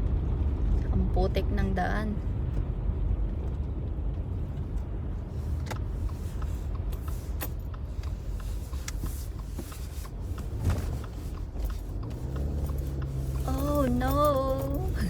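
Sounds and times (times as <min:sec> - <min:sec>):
tyres and engine rumble: 0:00.0 - 0:15.0.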